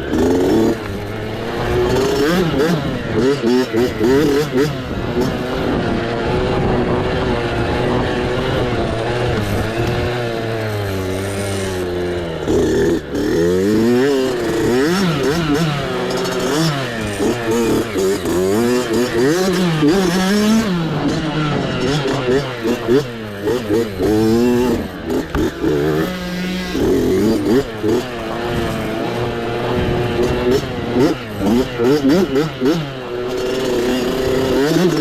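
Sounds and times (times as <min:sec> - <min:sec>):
mini bike engine revving: 0:00.0 - 0:35.0.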